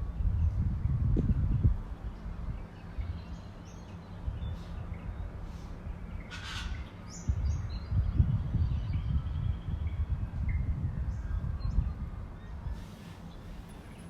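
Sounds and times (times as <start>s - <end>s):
birds chirping and whistling: 2.6s - 14.0s.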